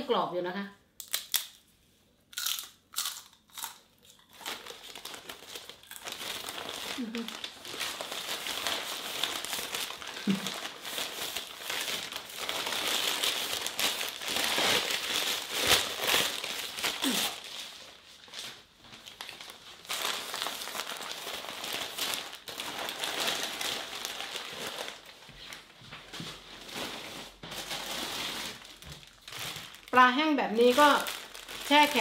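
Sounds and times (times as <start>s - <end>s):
newspaper crackling and rustling: 4.3s - 32.0s.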